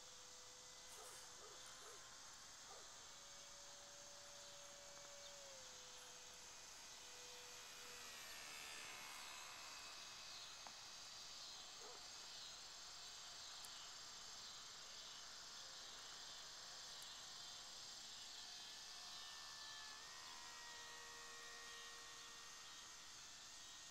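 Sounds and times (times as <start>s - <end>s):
model plane electric motor whine: 0.0s - 23.9s.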